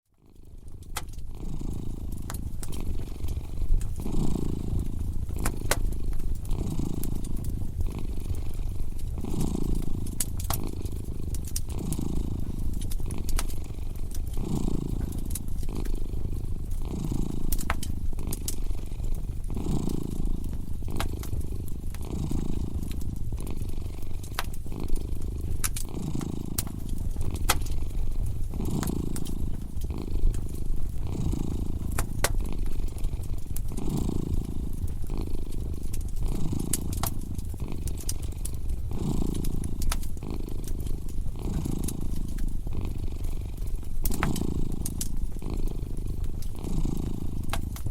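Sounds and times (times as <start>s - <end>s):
cat purring: 0.0s - 47.9s
fireplace fire crackling: 0.3s - 47.9s.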